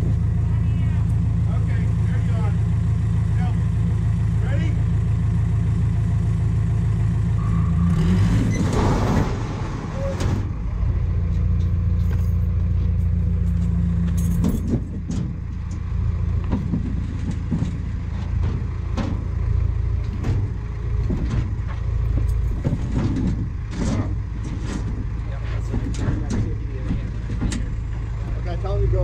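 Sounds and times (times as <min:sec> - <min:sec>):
large engine rumbling: 0:00.0 - 0:29.0.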